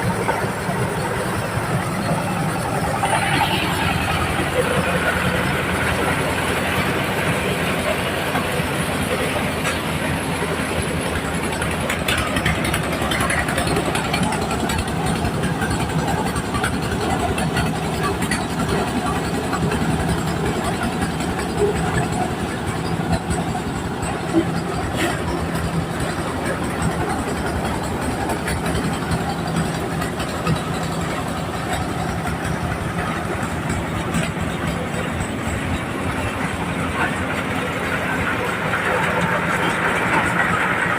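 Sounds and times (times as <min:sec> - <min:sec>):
corn sheller mechanical clatter: 0:00.0 - 0:40.9
engine drone: 0:00.0 - 0:40.9.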